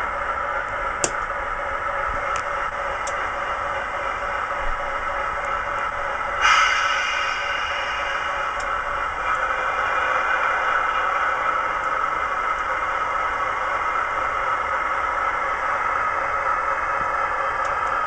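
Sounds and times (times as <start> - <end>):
model locomotive diesel engine sound: 0.0 - 18.0.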